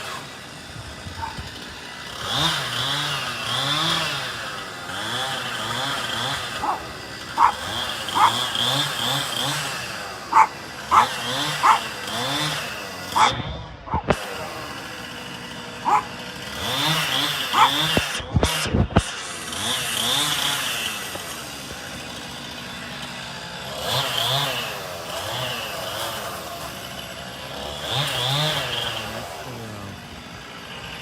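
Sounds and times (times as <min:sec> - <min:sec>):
chainsaw revving and idling: 0:00.0 - 0:31.0.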